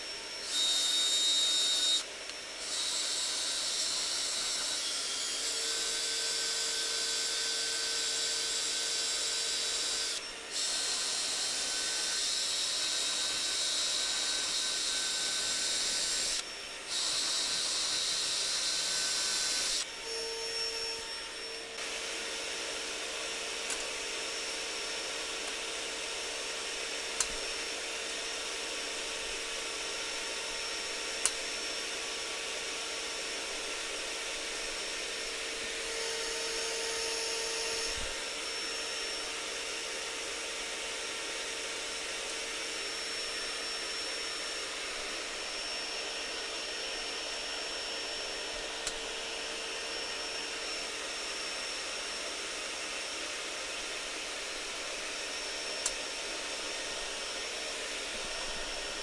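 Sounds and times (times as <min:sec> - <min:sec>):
power drill whining: 0:00.0 - 0:59.0.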